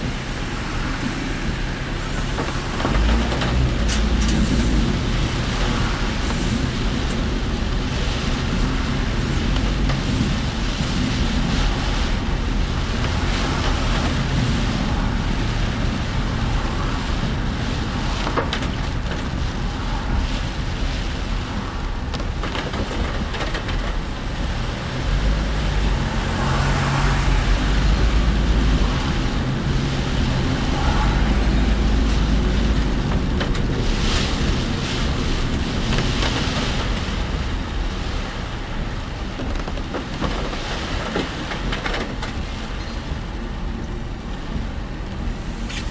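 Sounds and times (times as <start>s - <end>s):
car road and engine noise: 0.0s - 45.9s
deep rumble: 0.0s - 45.9s
rain: 0.0s - 45.9s
wind: 0.0s - 45.9s.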